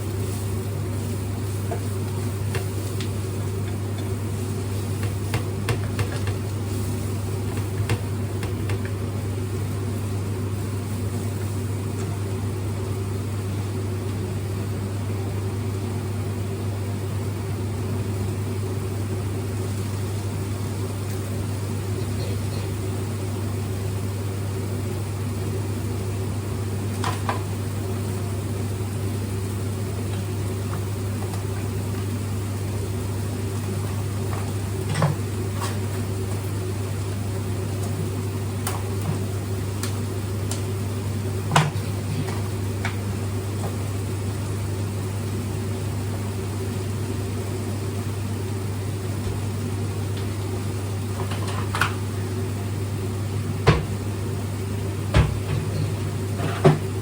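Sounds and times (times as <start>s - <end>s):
kitchen appliance humming: 0.0s - 57.0s.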